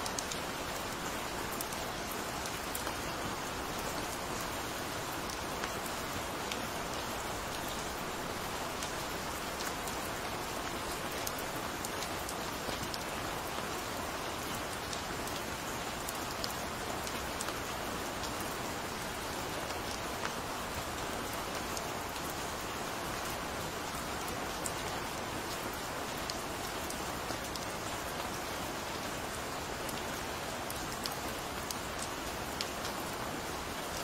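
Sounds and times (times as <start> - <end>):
gentle rain hiss: 0.0 - 34.0
raindrops ticking on a surface: 0.0 - 34.0.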